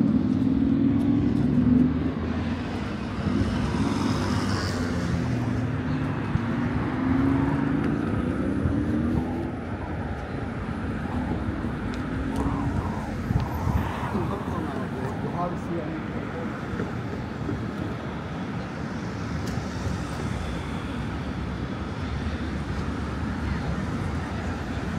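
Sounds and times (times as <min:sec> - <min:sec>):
vehicle engines passing: 0:00.0 - 0:24.9.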